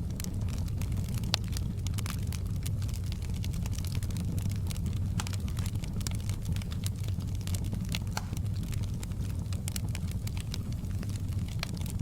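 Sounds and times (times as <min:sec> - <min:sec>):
logs crackling and popping: 0:00.0 - 0:12.0
low rumble of flames: 0:00.0 - 0:12.0.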